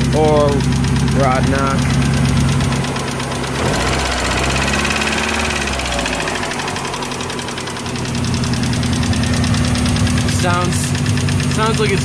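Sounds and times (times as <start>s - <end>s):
car engine idling: 0.0s - 12.0s
fast ticking engine knock: 0.0s - 12.0s.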